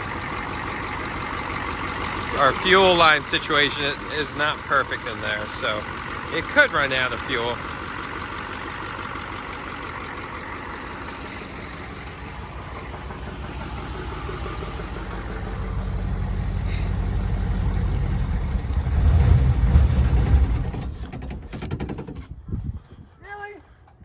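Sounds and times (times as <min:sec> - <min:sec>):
diesel engine running: 0:00.0 - 0:22.4.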